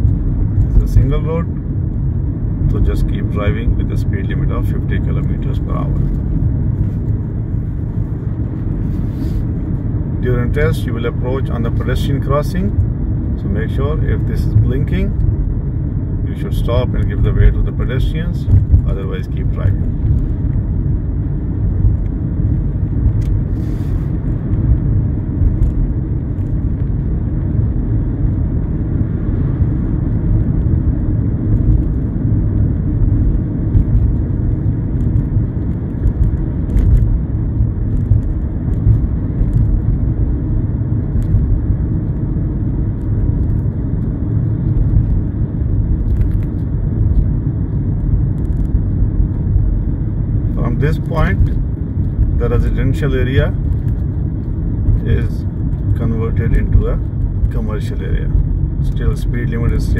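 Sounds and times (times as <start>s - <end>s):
car interior driving rumble: 0.0s - 59.9s.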